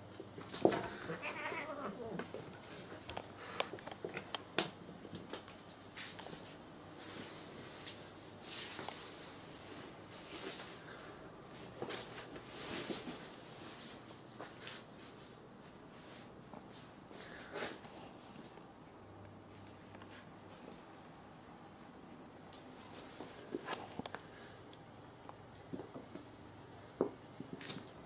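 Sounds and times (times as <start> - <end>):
cats scuffling and rustling: 0.0 - 18.7, 22.5 - 24.5, 25.3 - 28.0.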